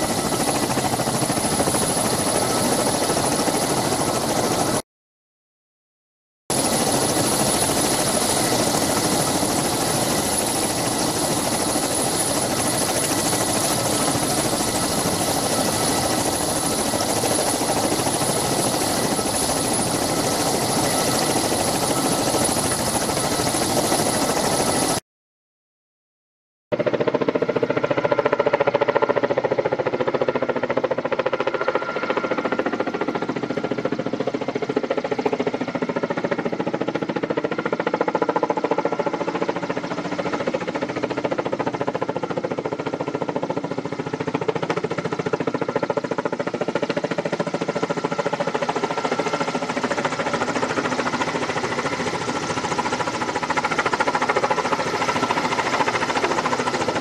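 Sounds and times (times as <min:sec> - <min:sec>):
helicopter rotors and engines: 0:00.0 - 0:04.8, 0:06.5 - 0:25.0, 0:26.7 - 0:57.0.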